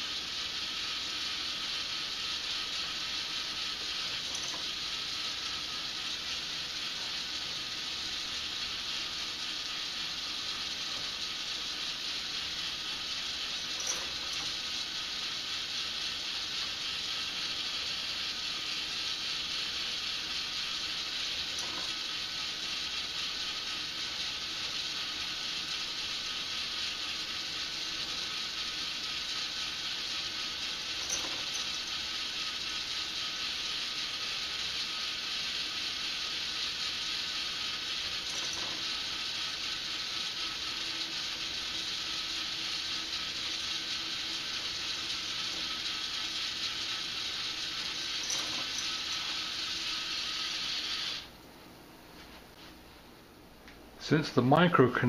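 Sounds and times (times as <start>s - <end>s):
mechanical motor whir: 0.0s - 51.3s.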